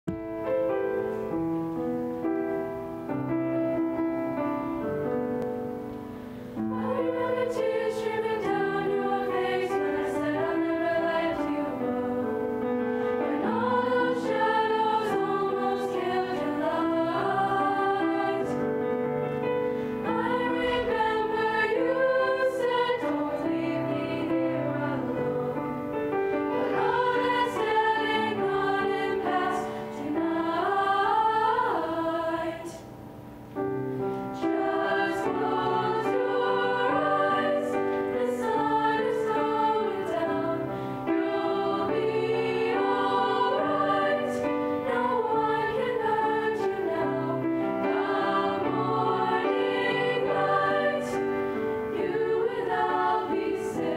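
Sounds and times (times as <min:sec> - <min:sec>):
piano chords: 0:00.0 - 0:53.9
children's choir singing: 0:06.5 - 0:33.0, 0:34.4 - 0:53.9.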